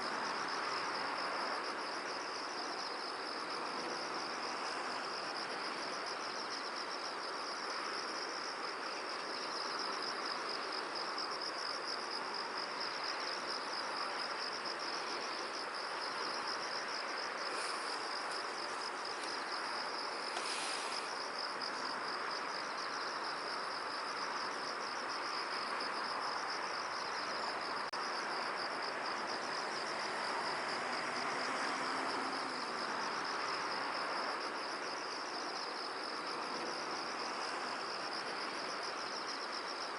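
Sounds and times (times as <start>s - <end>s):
insects chirring: 0.0s - 39.9s
wind through field: 0.0s - 39.9s.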